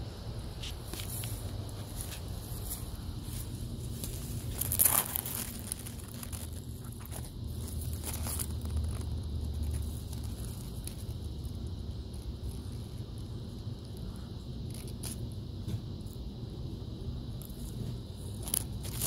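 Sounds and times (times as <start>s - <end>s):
steady low rumble: 0.0s - 19.0s
dry leaves crackling underfoot: 0.6s - 15.4s, 17.4s - 19.0s.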